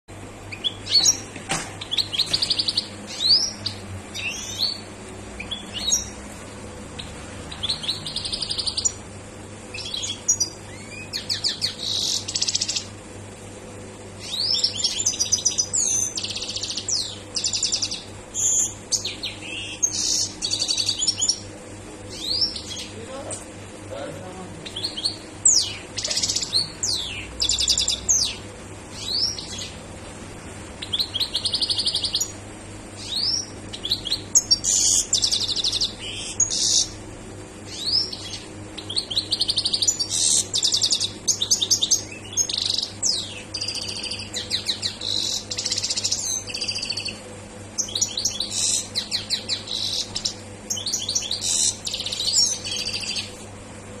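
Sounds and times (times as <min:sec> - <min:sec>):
goldfinch singing: 0:00.5 - 0:06.2, 0:06.9 - 0:09.1, 0:09.7 - 0:13.0, 0:14.2 - 0:21.5, 0:22.1 - 0:23.4, 0:24.2 - 0:29.8, 0:30.8 - 0:32.4, 0:33.0 - 0:37.0, 0:37.7 - 0:47.2, 0:47.8 - 0:53.4.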